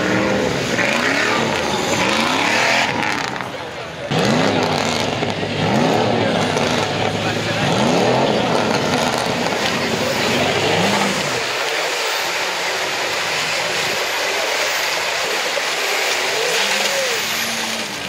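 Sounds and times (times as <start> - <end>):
noisy wash of mud: 0.0 - 18.0
suv engine revving: 0.0 - 18.0.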